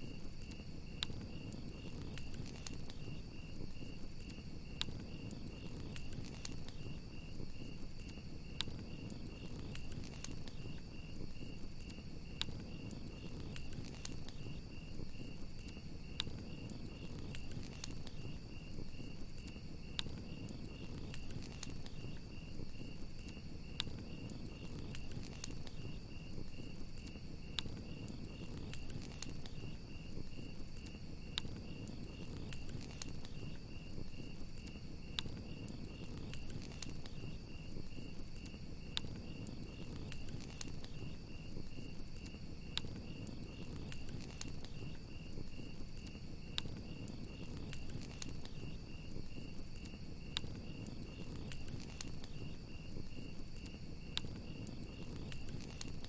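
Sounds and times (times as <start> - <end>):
campfire crackling and popping: 0.0 - 56.0
crickets chirping: 0.0 - 56.0.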